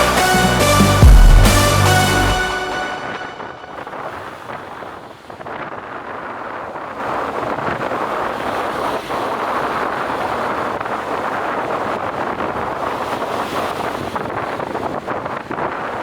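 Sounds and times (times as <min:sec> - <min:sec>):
strong wind on microphone: 0:03.0 - 0:16.0.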